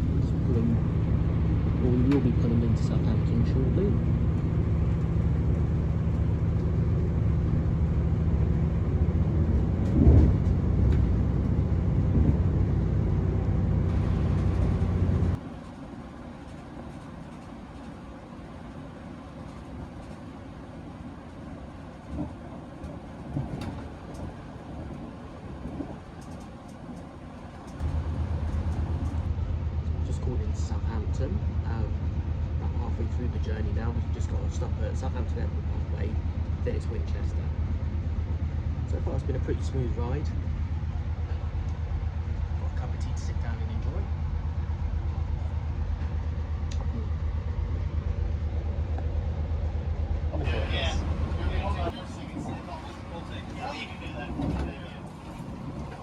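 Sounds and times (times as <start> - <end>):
train carriage rumble: 0.0 - 56.0.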